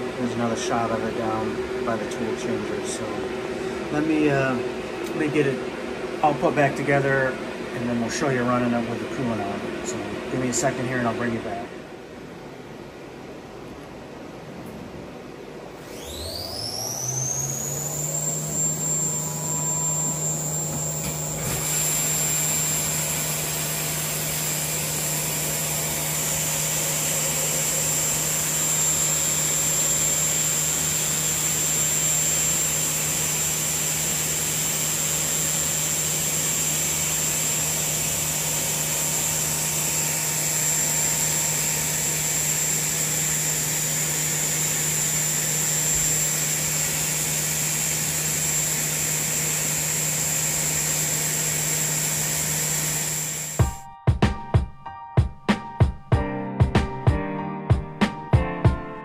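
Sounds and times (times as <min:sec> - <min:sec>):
mill spindle whining: 0:00.0 - 0:11.7, 0:15.7 - 0:53.7.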